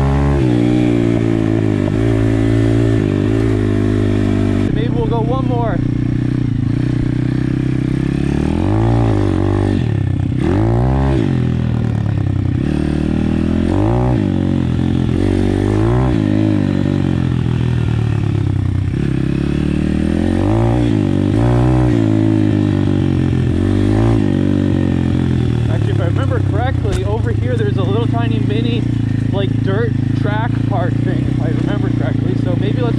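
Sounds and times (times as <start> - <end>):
motorbike engine revving: 0.0 - 32.9.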